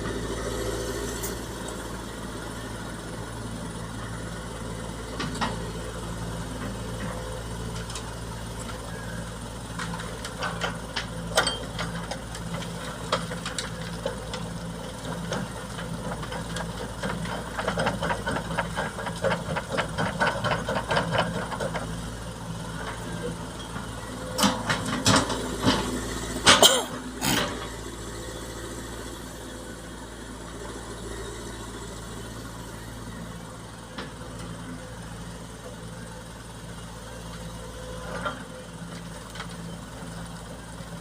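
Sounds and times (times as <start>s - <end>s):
diesel machinery running: 0.0s - 41.0s.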